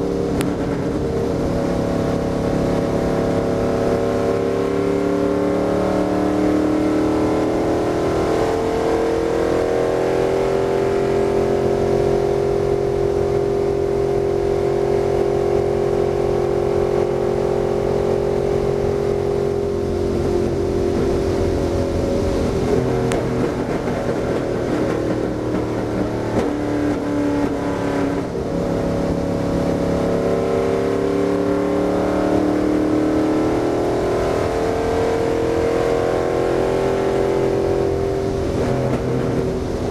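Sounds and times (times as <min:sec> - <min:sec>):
race car engine at speed: 0:00.0 - 0:39.9.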